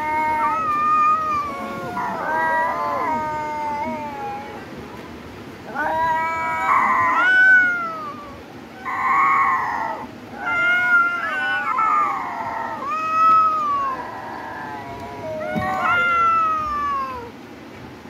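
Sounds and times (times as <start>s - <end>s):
cats meowing: 0.0s - 4.6s, 5.7s - 17.3s.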